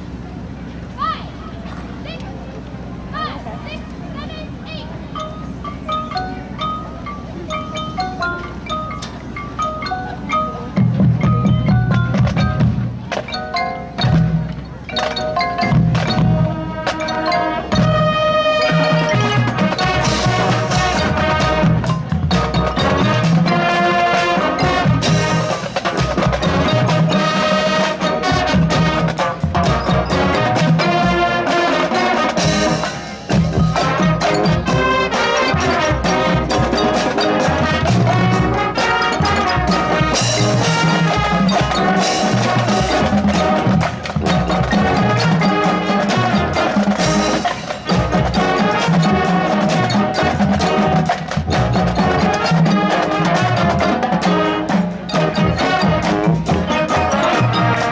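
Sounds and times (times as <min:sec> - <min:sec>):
band playing brass and drums: 0:03.0 - 0:57.9.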